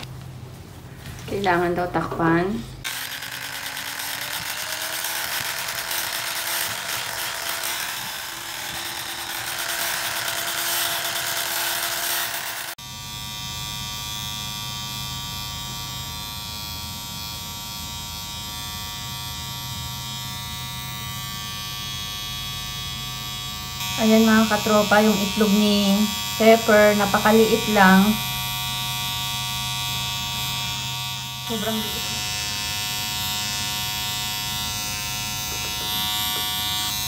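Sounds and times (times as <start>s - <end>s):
electric hair clippers buzzing: 2.8s - 37.0s
trimmer humming: 2.8s - 37.0s.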